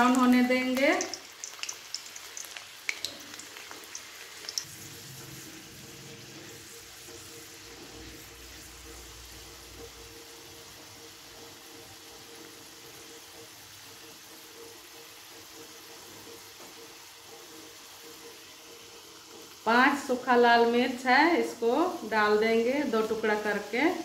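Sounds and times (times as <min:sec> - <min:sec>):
garlic sizzling in hot oil: 0:00.0 - 0:24.0.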